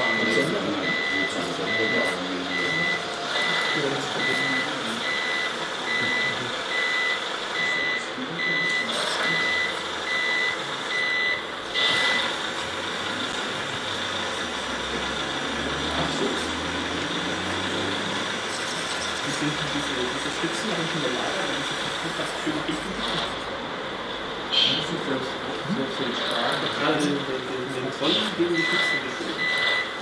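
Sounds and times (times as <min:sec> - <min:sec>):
reversing beeper: 0:00.0 - 0:18.4, 0:19.3 - 0:23.6, 0:24.5 - 0:30.0.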